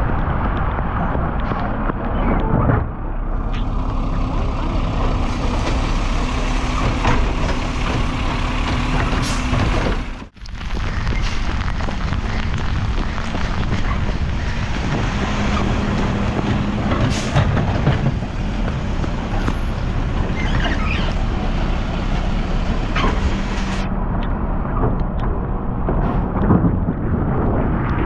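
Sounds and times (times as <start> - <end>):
garbage truck engine running: 2.7 - 10.4, 11.5 - 27.4.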